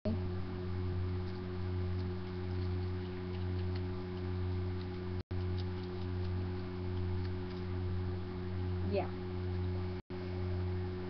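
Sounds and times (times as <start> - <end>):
electrical hum with overtones: 0.0 - 11.0.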